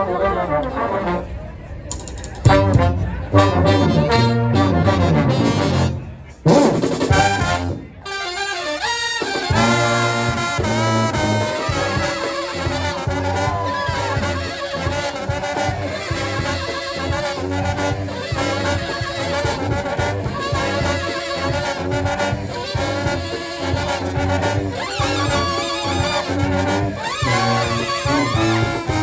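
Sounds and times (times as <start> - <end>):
brass band playing jazz: 0.0 - 29.0.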